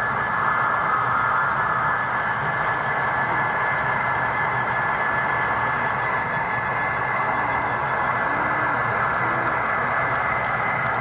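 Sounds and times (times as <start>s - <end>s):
model trains whirring hum: 0.0s - 11.0s
thin high whine: 0.0s - 11.0s.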